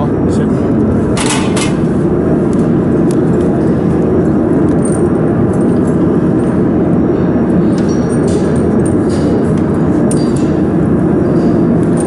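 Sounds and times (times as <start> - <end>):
steady machinery noise: 0.0 - 12.0.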